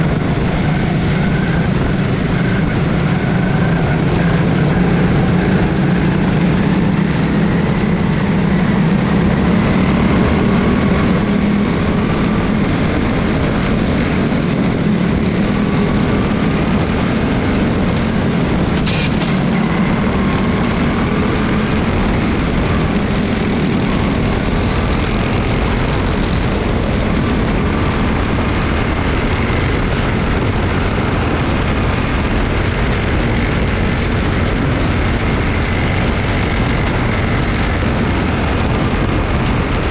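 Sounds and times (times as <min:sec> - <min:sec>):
racing engines droning: 0:00.0 - 0:39.9.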